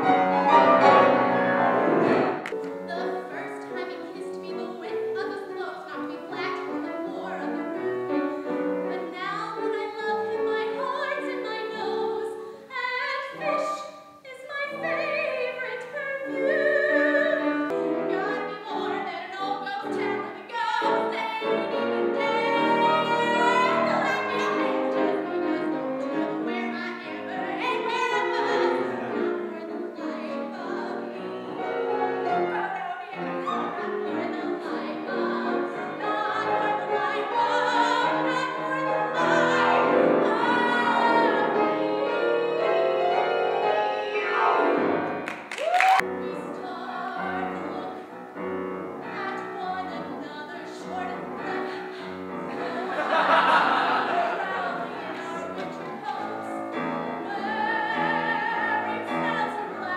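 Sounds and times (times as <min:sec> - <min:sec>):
grand piano: 0:00.0 - 0:59.9
woman singing operatically: 0:02.8 - 0:08.0, 0:08.8 - 0:44.1, 0:45.7 - 0:48.1, 0:49.0 - 0:56.6, 0:57.2 - 0:59.9.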